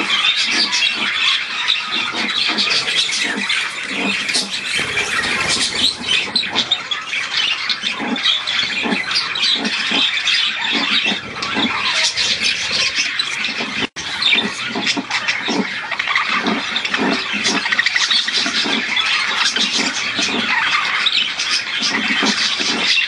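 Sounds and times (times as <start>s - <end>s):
budgerigars chattering and squawking: 0.0s - 23.0s.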